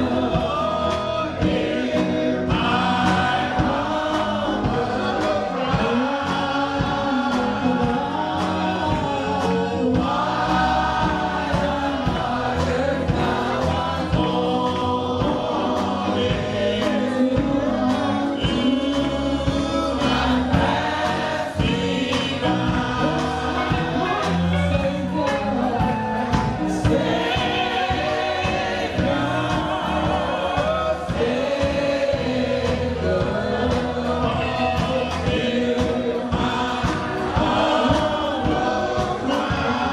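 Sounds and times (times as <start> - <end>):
drum beats: 0.0 - 39.9
gospel choir singing: 0.0 - 39.9
live band playing: 0.0 - 39.9.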